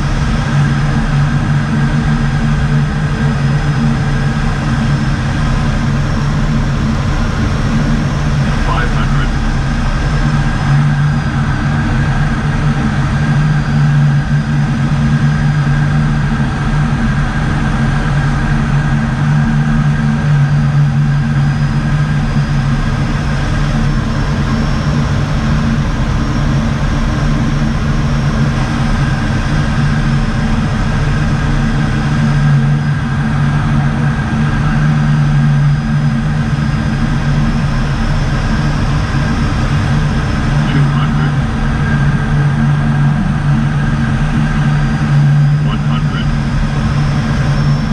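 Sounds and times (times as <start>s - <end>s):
turboprop engines droning: 0.0s - 47.9s.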